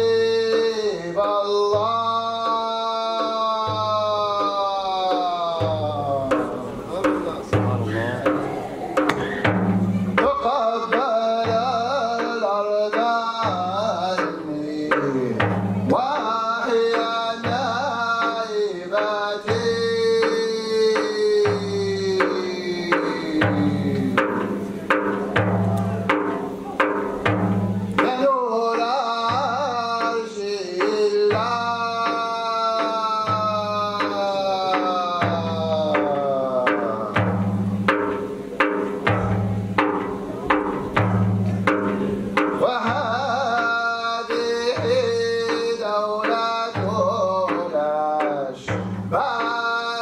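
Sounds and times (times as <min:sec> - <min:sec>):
man chanting: 0:00.0 - 0:27.0, 0:27.6 - 0:39.4, 0:40.4 - 0:50.0
frame drum beating: 0:00.0 - 0:50.0.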